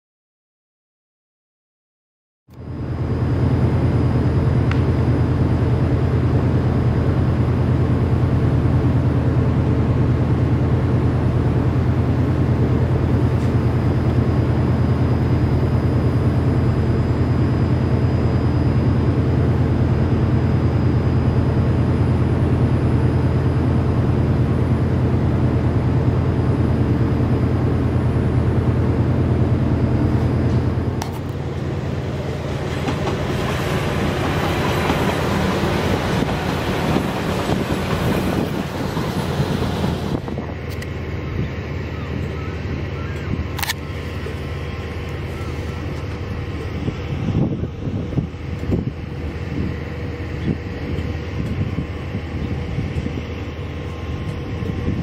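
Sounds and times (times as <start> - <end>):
diesel locomotive idling: 2.6 - 55.0
diesel train running past: 2.6 - 55.0.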